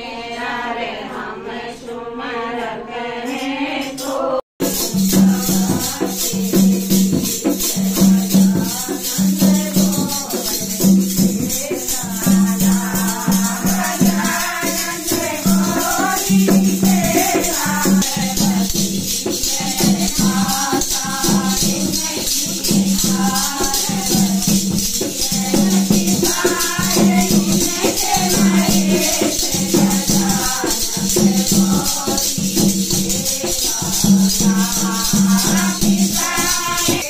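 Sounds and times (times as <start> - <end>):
women singing in unison: 0.0 - 37.0
clappers with jingles rattling: 4.6 - 37.0.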